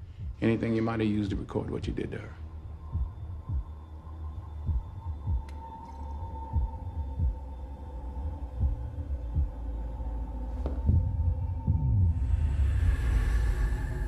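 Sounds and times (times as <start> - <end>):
low heartbeat-like thumps: 0.0 - 0.6, 1.3 - 14.0.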